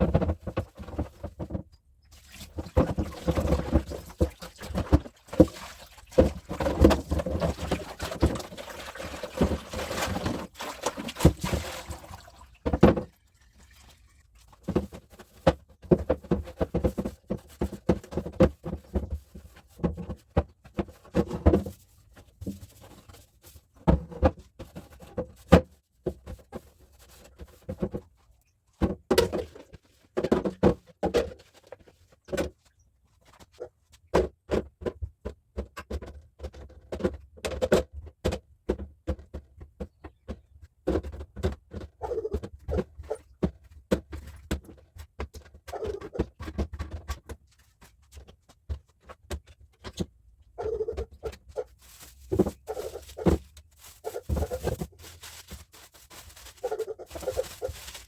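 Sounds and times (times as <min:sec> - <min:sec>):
containers knocking and rustling: 0:00.0 - 0:58.0.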